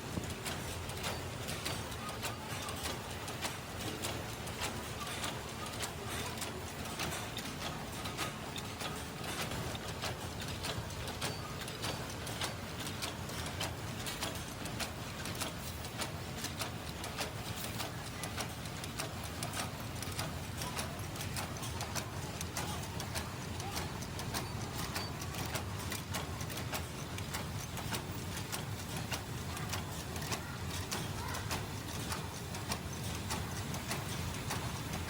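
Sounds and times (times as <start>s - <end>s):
mesh-making machine running: 0.0s - 35.0s.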